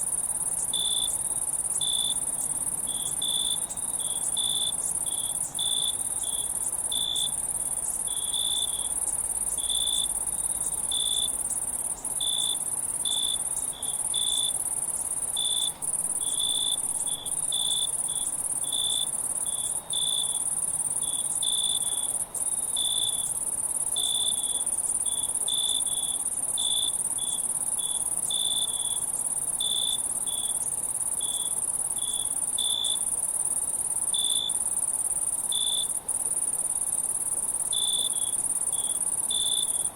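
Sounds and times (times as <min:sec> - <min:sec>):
crickets chirping: 0:00.0 - 0:39.9
high-pitched insect trill: 0:00.1 - 0:39.9.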